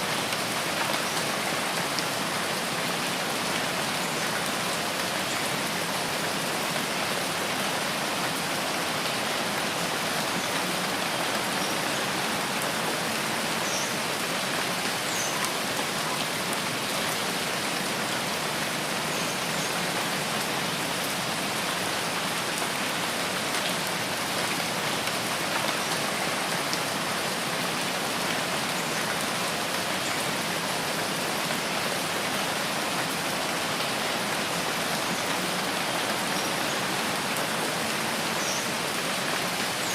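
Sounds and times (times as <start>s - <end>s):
steady rain on leaves: 0.0s - 39.9s.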